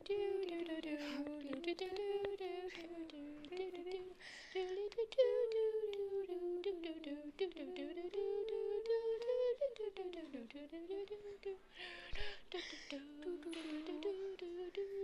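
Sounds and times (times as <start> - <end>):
girl humming a gliding tune: 0.0 - 15.0.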